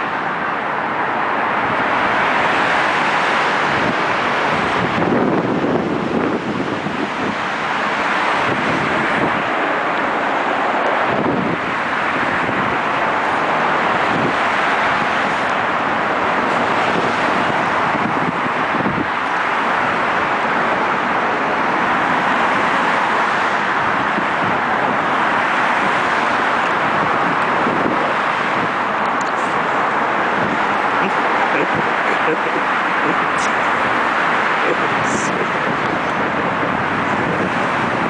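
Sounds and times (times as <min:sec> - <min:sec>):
loud rushing noise: 0:00.0 - 0:38.0.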